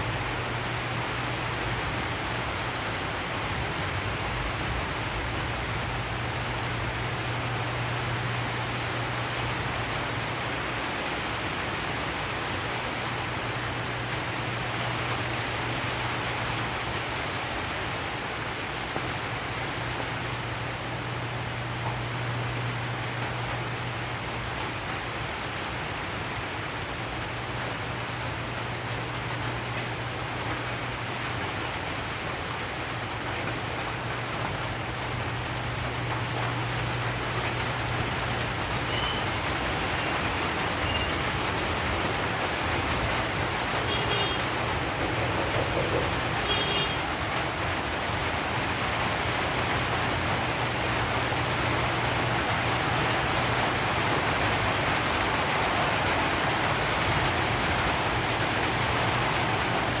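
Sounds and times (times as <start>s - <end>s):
rain on metal roof: 0.0s - 60.0s.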